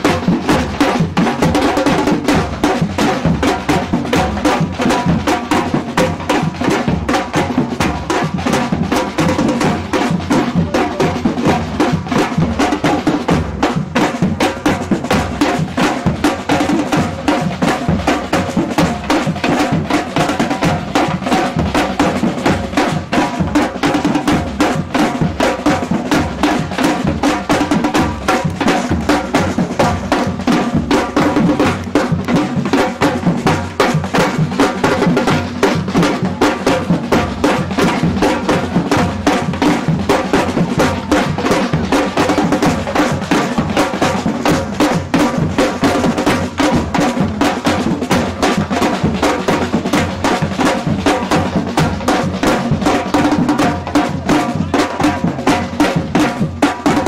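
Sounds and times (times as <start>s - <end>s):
samba drum troupe playing: 0.0s - 57.0s.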